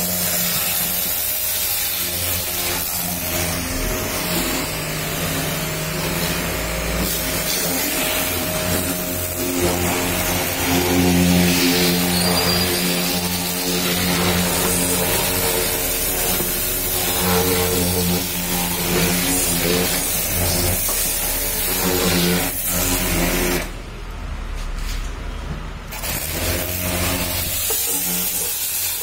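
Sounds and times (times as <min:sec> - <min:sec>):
water jet hissing: 0:00.0 - 0:05.9, 0:06.6 - 0:23.5, 0:26.1 - 0:29.0
pressure washer pump humming: 0:00.0 - 0:23.9, 0:25.9 - 0:29.0.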